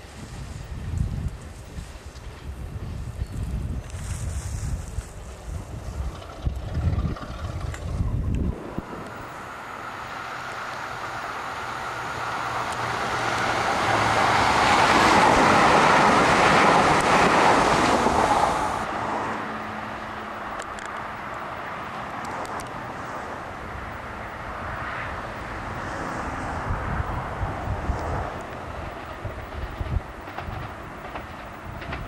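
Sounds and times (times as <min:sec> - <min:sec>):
distant train running: 0:00.0 - 0:32.0
electric train running on rails: 0:00.0 - 0:32.0.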